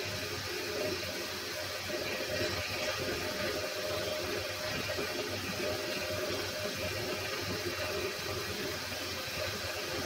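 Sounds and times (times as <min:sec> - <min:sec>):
high machine whine: 0:00.0 - 0:10.0.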